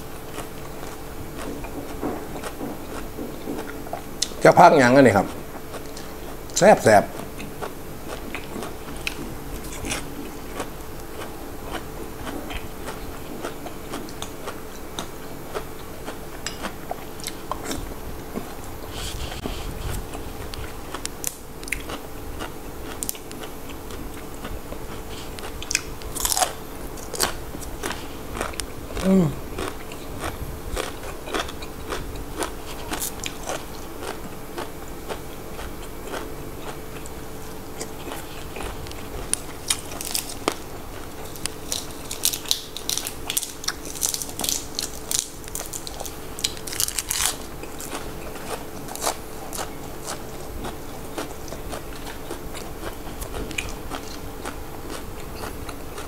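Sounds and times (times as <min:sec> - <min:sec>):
crunching raw vegetables: 0:00.0 - 0:56.0.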